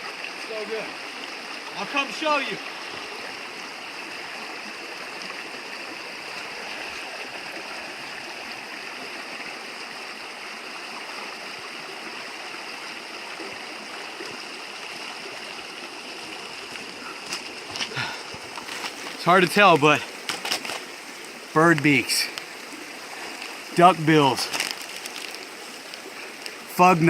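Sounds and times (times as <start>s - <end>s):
stream rushing and trickling: 0.0s - 27.0s.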